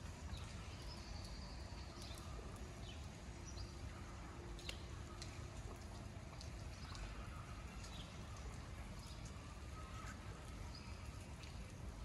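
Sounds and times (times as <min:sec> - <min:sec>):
raindrop ticks: 0:00.0 - 0:12.0.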